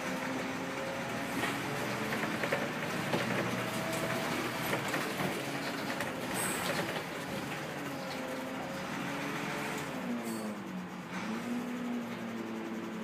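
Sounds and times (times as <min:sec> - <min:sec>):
road and body noise: 0:00.0 - 0:12.3
bus diesel engine running: 0:00.0 - 0:13.0.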